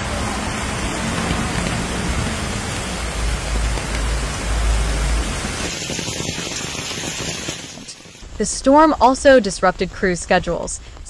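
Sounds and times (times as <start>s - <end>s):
heavy rain pouring: 0.0s - 9.8s.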